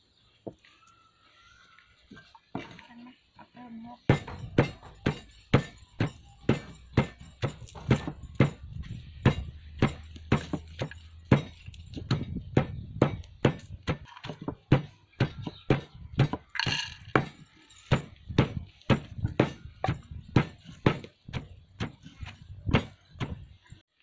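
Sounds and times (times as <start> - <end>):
pestle pounding in stone mortar: 4.0 - 23.8.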